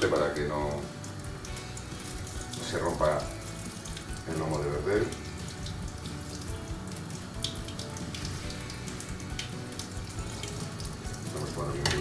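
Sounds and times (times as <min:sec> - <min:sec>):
tap water splashing into sink: 0:00.0 - 0:12.0.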